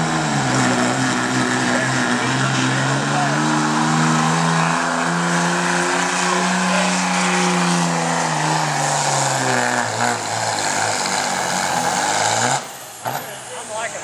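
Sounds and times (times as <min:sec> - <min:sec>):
diesel engine at full throttle: 0:00.0 - 0:14.0.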